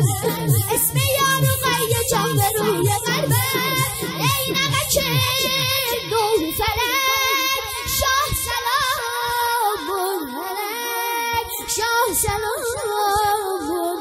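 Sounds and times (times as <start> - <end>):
boy singing into a microphone: 0.0 - 14.0.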